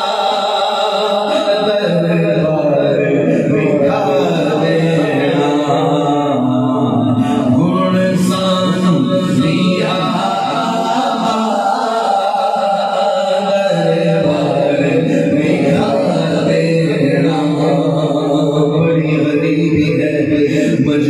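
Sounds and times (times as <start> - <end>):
men singing unaccompanied: 0.0 - 21.0.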